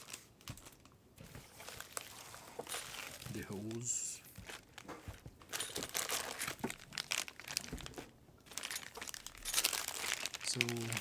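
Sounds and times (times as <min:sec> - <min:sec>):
plastic packaging crinkling: 0:00.0 - 0:00.9, 0:01.5 - 0:11.0.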